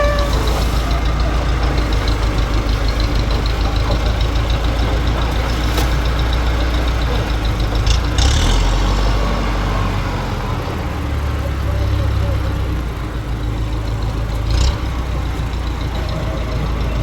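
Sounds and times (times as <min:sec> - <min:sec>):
engine running with ticking: 0:00.0 - 0:17.0.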